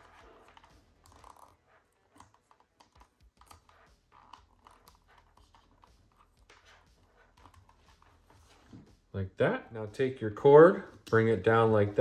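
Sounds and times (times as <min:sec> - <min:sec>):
electrical tape crackling: 0:00.0 - 0:12.0.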